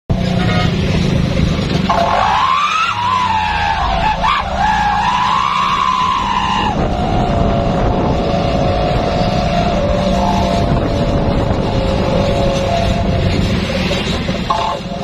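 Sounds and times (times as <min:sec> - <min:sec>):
truck engine revving: 0:00.1 - 0:15.0.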